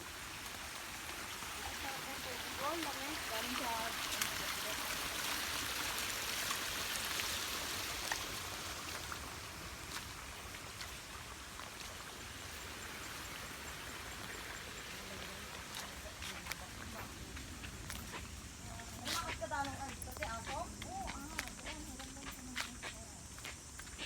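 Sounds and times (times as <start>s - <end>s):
stream water running over rocks: 0.0s - 24.0s.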